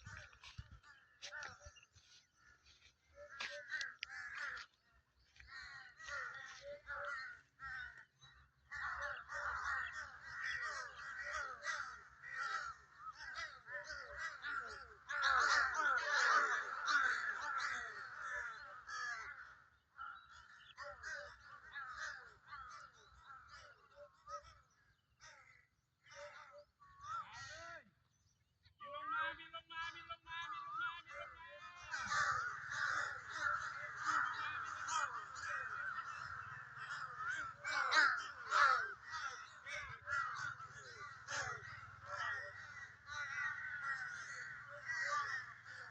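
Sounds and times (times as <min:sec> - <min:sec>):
crows cawing: 0:00.0 - 0:27.8, 0:31.1 - 0:45.9.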